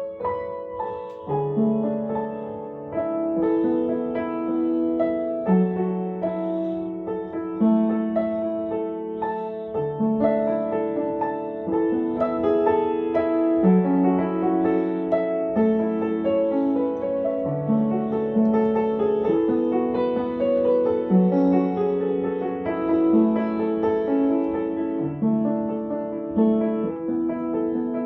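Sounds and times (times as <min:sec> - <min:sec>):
slow piano melody: 0:00.0 - 0:28.0.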